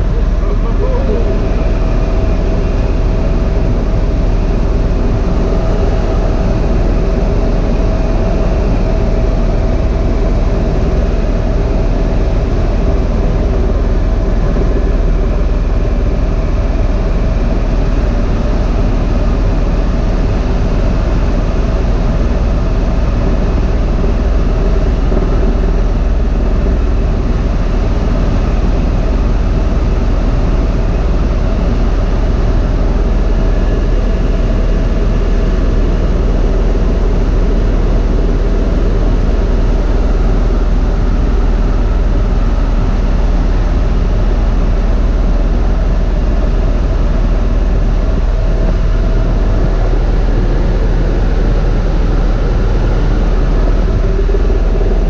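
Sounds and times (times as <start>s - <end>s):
helicopter cabin drone and whine: 0.0s - 55.0s.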